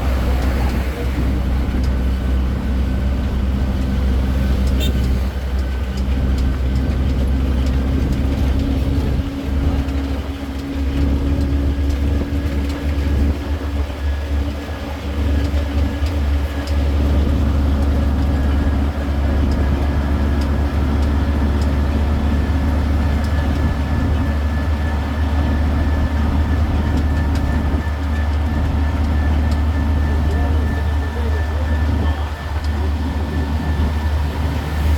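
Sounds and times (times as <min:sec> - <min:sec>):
low engine drone: 0:00.0 - 0:34.9
rolling wagons rumble: 0:00.0 - 0:34.9.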